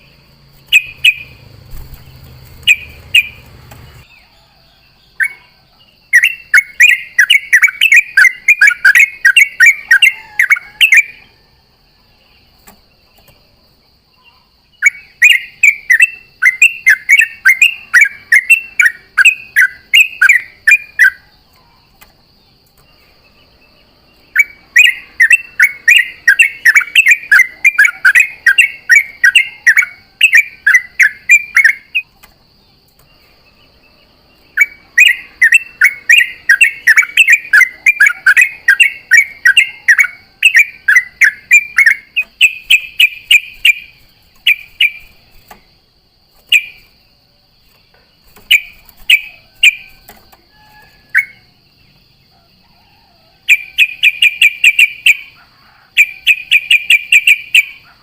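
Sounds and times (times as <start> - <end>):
bird chattering song: 0.0 - 11.4, 14.2 - 45.7, 46.4 - 47.0, 47.7 - 52.0, 53.4 - 58.0.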